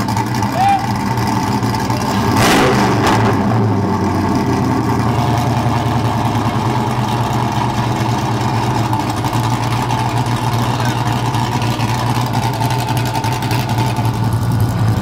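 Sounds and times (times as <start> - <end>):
car engine through muffler: 0.0 - 15.0.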